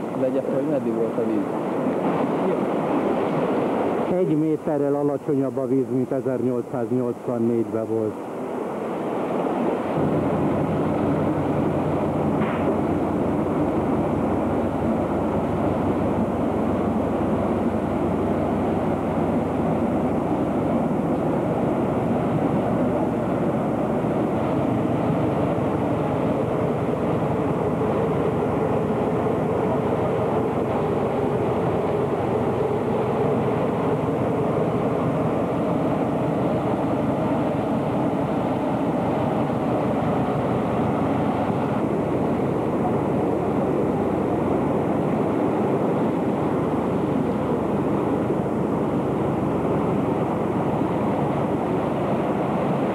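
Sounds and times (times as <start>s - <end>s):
floodwater rushing: 0.0s - 5.4s, 8.2s - 52.9s.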